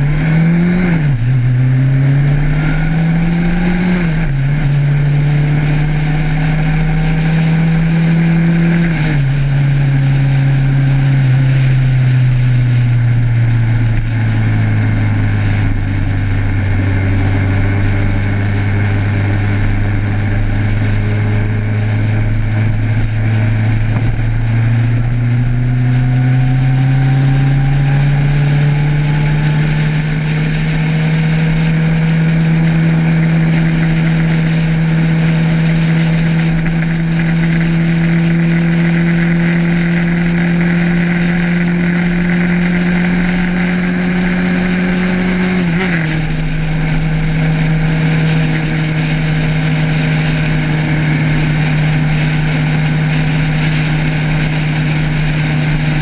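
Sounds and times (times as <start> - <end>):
motorcycle engine: 0.0 - 56.0
wind and road noise: 0.0 - 56.0.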